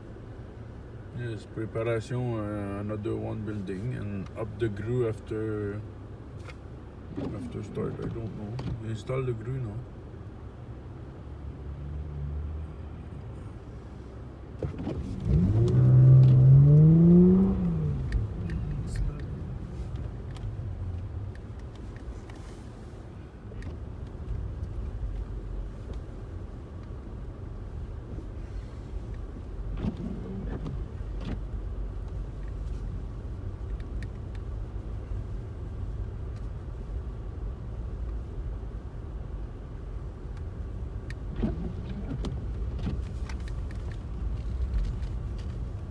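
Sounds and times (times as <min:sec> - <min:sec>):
car driving on highway rumble: 0:00.0 - 0:45.9.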